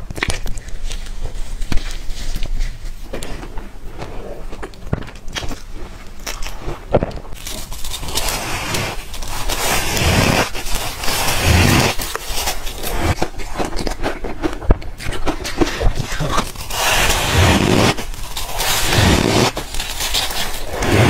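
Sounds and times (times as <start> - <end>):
crunching and chewing ice: 0.0 - 21.0.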